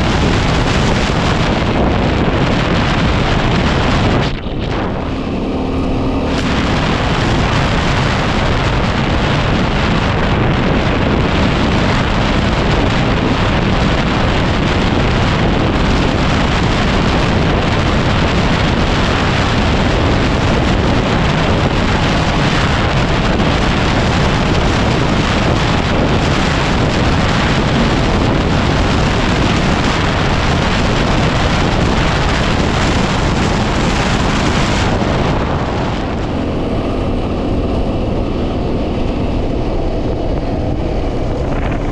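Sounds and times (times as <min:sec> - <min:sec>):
motorcycle engine: 0:00.0 - 0:41.9
wind buffeting microphone: 0:00.0 - 0:41.9.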